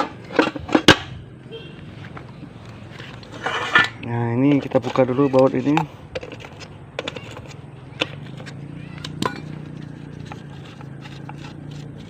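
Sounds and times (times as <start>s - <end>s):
hand tools clicking and tapping: 2.2s - 12.0s.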